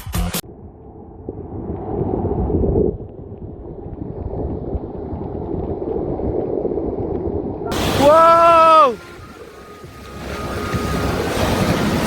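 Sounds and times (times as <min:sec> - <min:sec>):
wind buffeting microphone: 0:00.5 - 0:12.0.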